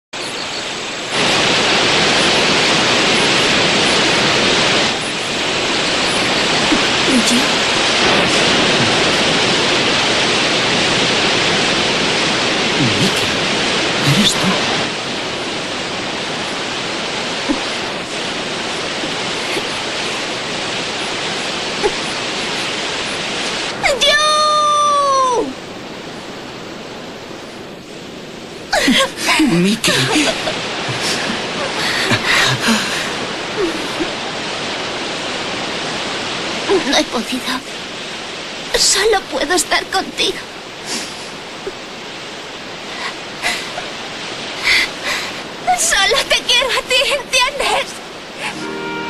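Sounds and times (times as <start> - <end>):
waterfall rushing: 0.2 - 49.0.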